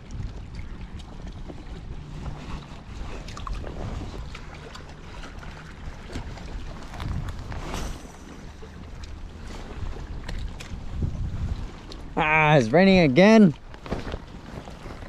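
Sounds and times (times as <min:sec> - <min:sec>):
wind rumbling on microphone: 0:00.0 - 0:12.2, 0:12.9 - 0:15.0.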